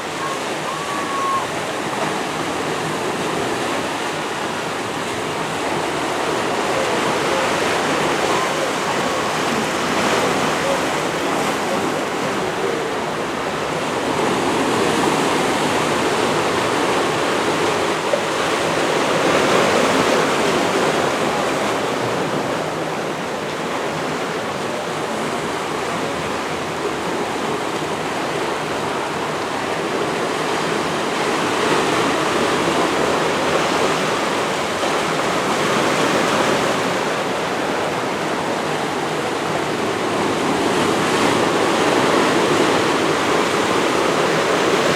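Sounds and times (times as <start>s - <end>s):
rushing water: 0.0s - 44.9s
wind: 0.0s - 44.9s.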